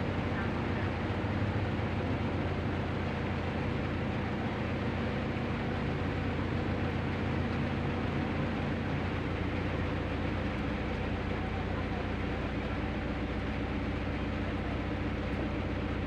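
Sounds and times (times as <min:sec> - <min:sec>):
road noise: 0:00.0 - 0:16.0
vehicle engine hum: 0:00.0 - 0:16.0.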